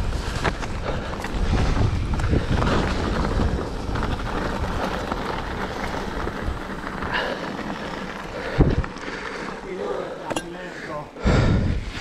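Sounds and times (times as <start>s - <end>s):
wind buffeting microphone: 0.0s - 9.7s, 11.2s - 12.0s
bike tyres rolling on gravel: 0.0s - 12.0s.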